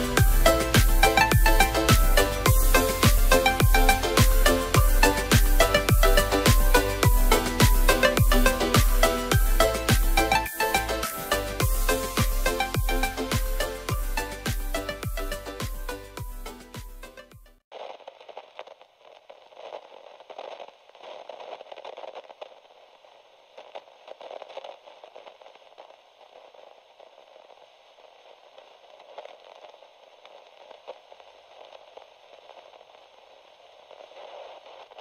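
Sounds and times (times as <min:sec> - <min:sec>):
static hiss with crackles: 0:00.0 - 0:35.0.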